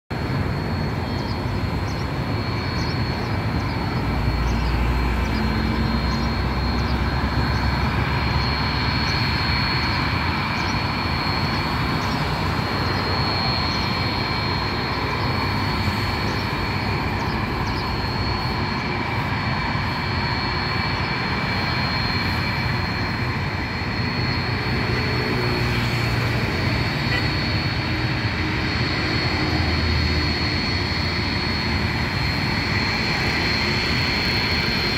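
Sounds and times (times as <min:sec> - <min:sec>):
engine drone with high whine: 0:00.1 - 0:34.9.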